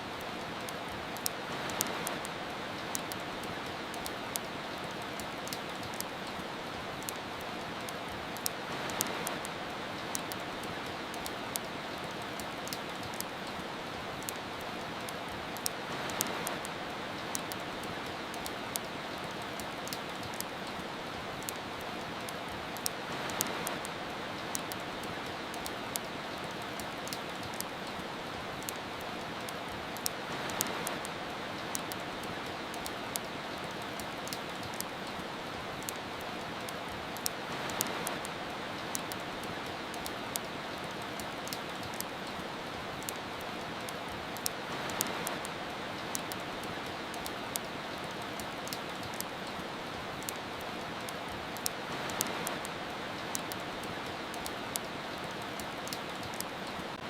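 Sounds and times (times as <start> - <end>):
soft rain: 0.0 - 57.0
wood fire crackling: 0.0 - 57.0.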